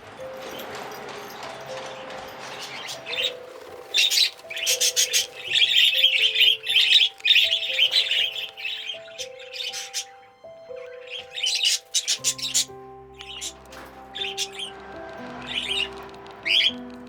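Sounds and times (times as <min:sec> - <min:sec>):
budgies chirping and squawking: 0:00.0 - 0:17.0
melodic background music: 0:00.0 - 0:17.0.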